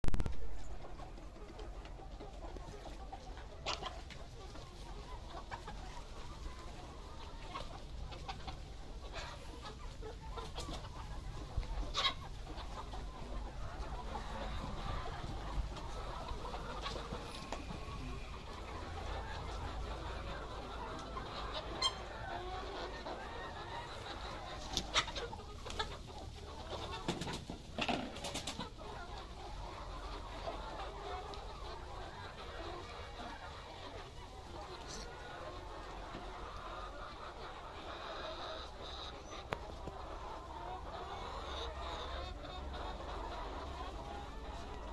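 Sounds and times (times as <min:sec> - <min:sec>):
hens clucking: 0:00.0 - 0:44.9.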